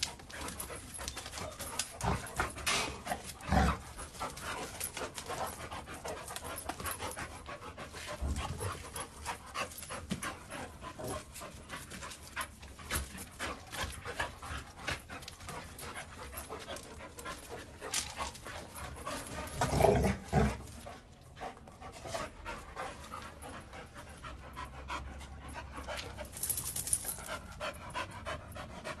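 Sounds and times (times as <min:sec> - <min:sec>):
dogs panting: 0:00.0 - 0:29.0
scuffing clicks of dogs tussling: 0:00.0 - 0:29.0.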